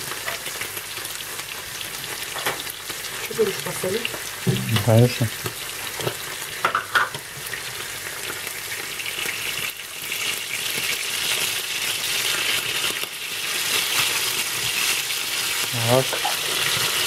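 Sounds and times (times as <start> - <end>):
food sizzling in frying pans: 0.0 - 17.0.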